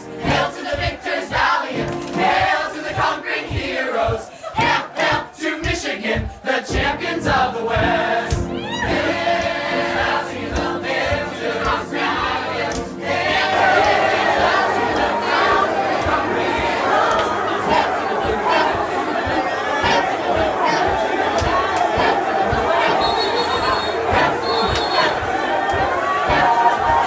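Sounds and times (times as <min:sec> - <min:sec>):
crowd singing: 0:00.0 - 0:27.0.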